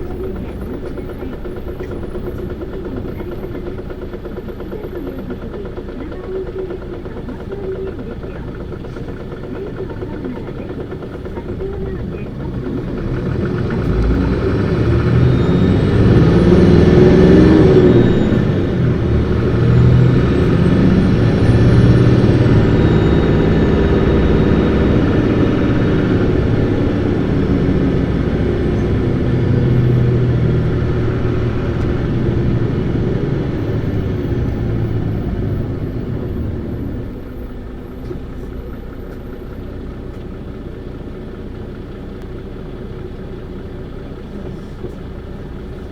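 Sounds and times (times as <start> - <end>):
bus diesel engine revving: 0.0 - 45.9.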